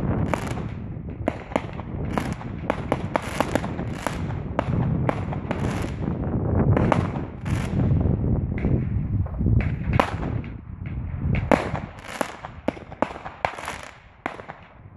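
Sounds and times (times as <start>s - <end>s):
fireworks bangs and cracks: 0.0s - 14.8s.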